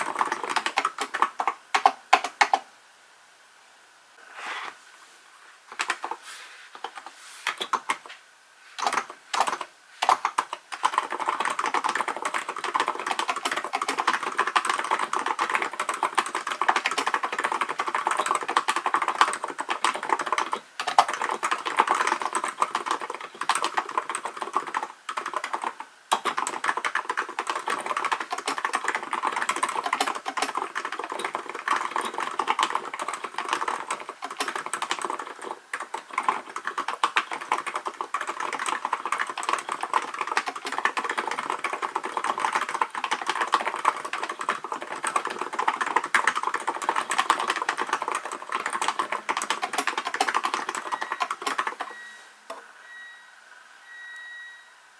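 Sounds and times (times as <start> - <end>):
keyboard typing: 0.0 - 2.7, 5.7 - 6.2, 6.8 - 8.2, 8.8 - 52.6.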